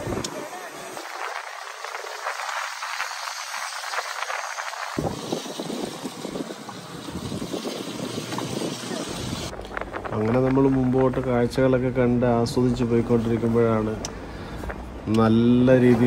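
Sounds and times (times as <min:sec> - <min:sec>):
car wind and road noise: 0:00.0 - 0:16.0
deep road rumble: 0:00.0 - 0:16.0.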